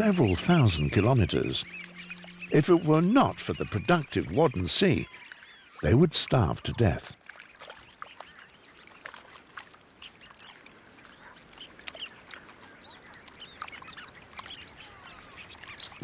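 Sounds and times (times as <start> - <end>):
waterbirds calling: 0.0 - 16.0.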